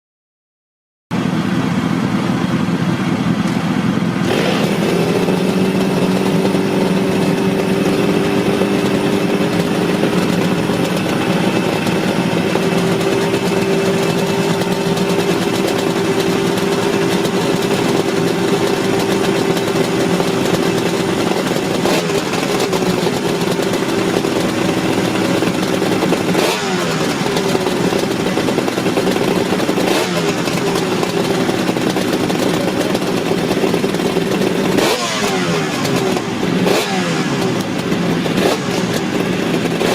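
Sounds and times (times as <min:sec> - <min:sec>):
engine throttle blips: 0:01.1 - 0:39.9
two-stroke engine idling: 0:01.1 - 0:39.9.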